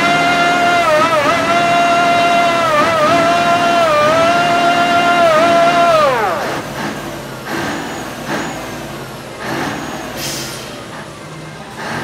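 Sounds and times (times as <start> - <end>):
air brakes hissing: 0.0 - 12.0
truck engine hum: 0.0 - 12.0.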